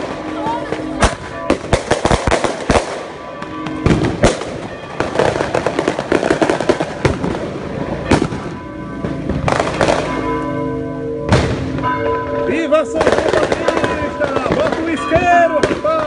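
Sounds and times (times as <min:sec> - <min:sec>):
fireworks bangs and crackling: 0:00.0 - 0:10.6, 0:11.2 - 0:16.0.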